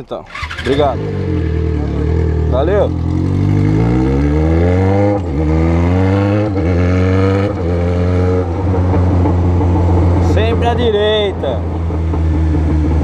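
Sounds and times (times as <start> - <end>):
motorcycle engine accelerating: 0.3 - 13.0.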